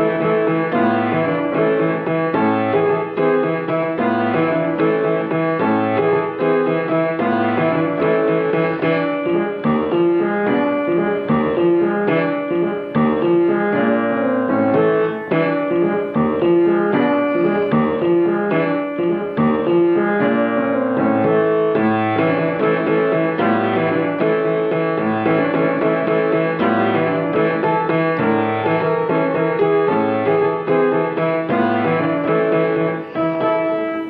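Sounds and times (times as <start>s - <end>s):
solo piano playing: 0.0s - 34.0s.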